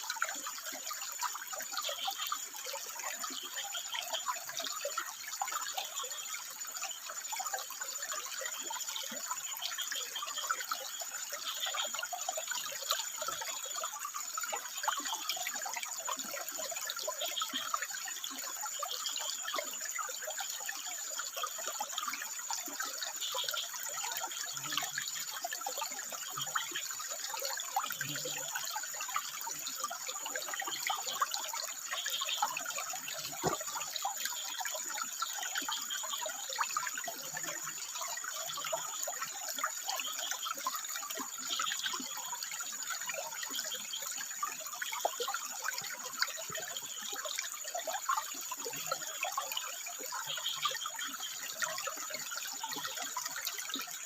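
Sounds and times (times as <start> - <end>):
water running over rocks: 0.0 - 54.0.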